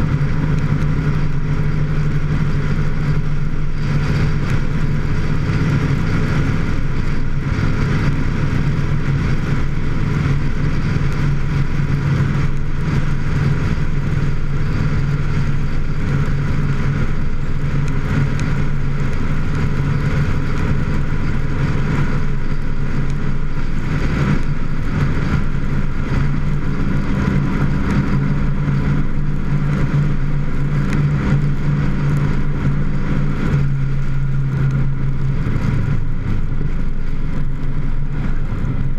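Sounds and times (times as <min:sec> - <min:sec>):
road and wind noise: 0:00.0 - 0:38.9
vehicle engine running: 0:00.0 - 0:38.9.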